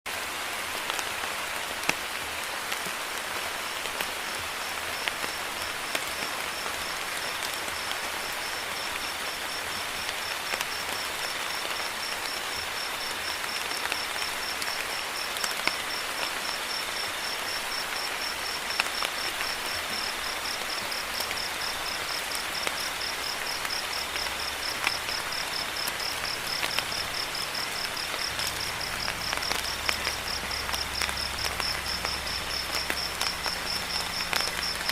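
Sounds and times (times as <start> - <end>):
steady rain with drop taps: 0.1 - 34.9
cricket trilling: 4.9 - 34.9.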